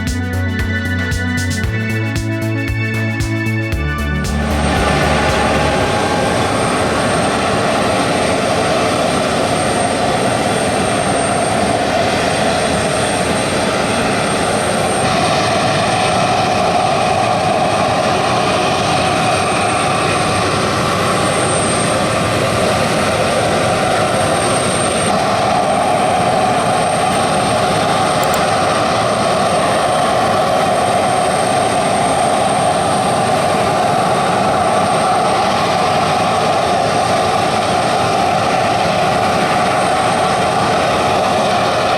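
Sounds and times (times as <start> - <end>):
jet engines running loudly: 0.0 - 41.9
thin high whine: 0.0 - 41.9.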